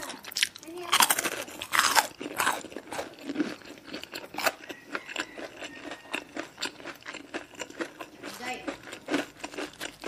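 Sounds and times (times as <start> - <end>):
crunchy chewing of fried chicken: 0.0 - 10.0.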